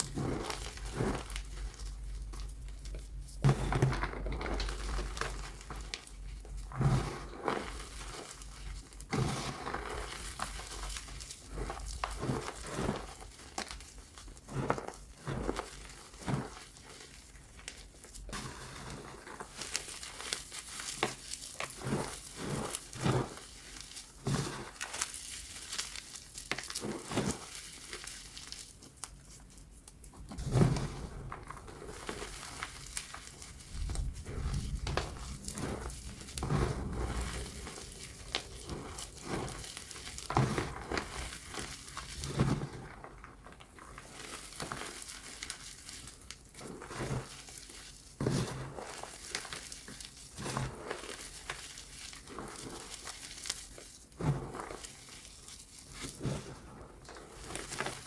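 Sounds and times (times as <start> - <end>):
chalk being crushed: 0.0 - 42.9, 43.8 - 58.0.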